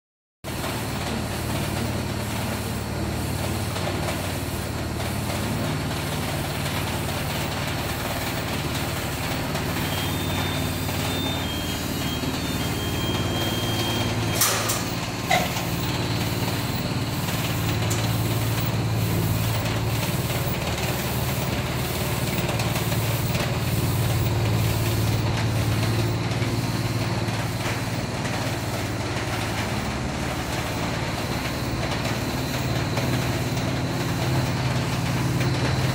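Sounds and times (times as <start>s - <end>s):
fan noise: 0.5s - 35.9s
low machine hum: 0.5s - 35.9s.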